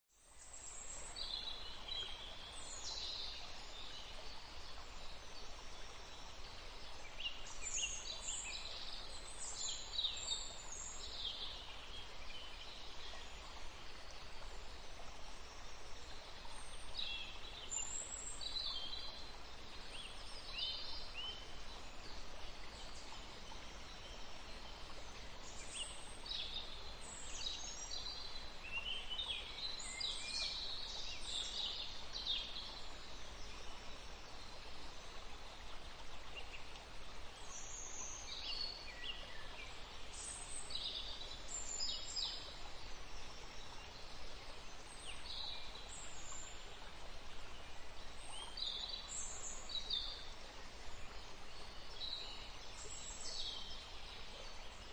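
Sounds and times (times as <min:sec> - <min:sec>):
outdoor background noise: 0:00.1 - 0:54.9.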